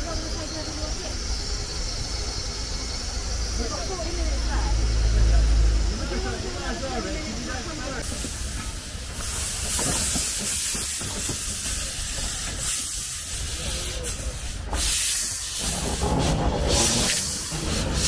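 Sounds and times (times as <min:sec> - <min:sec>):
steam engine hissing: 0:00.0 - 0:18.0.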